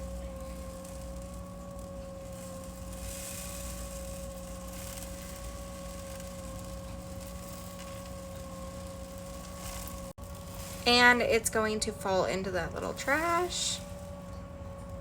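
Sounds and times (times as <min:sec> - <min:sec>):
motor whining: 0:00.0 - 0:15.0.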